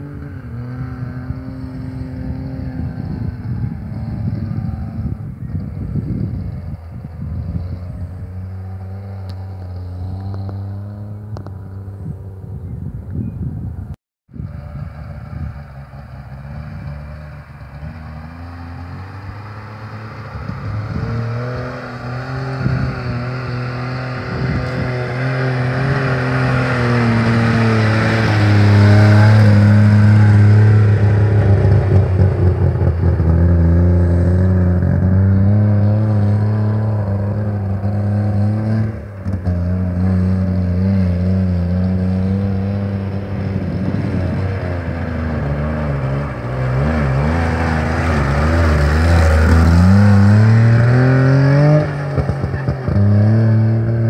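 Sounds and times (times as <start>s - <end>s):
tyre noise on loose ground: 0.0s - 54.0s.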